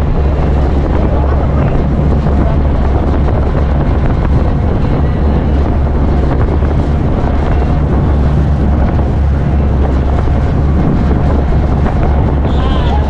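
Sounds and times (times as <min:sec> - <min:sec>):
boat engine drone: 0:00.0 - 0:13.0
wind rushing across microphone: 0:00.0 - 0:13.0.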